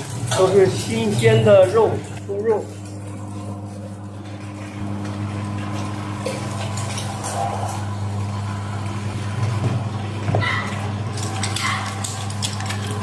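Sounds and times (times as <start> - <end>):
electric meat grinder humming: 0.0 - 13.0.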